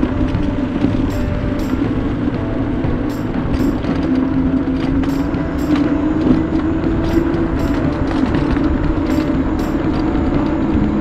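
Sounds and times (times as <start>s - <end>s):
electric scooter motor whine: 0.0s - 11.0s
road and wind rumble: 0.0s - 11.0s
sharp ticking clicks: 0.0s - 11.0s.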